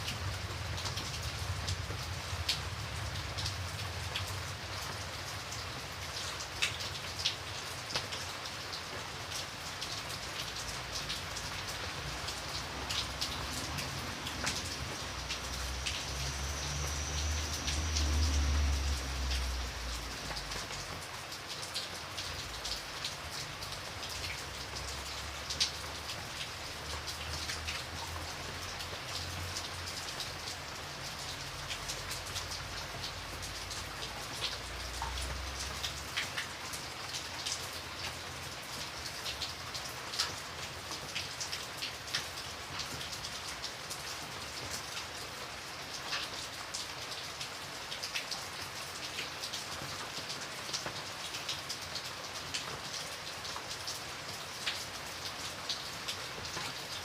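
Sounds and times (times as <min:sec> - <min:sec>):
raindrops ticking on a surface: 0:00.0 - 0:57.0.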